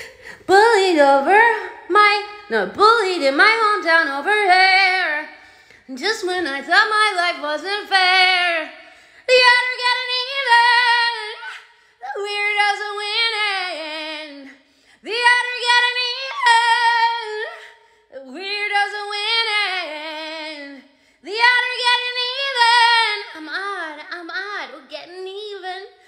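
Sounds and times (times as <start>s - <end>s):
woman singing unaccompanied: 0.5s - 5.3s, 5.9s - 8.7s, 9.3s - 26.0s.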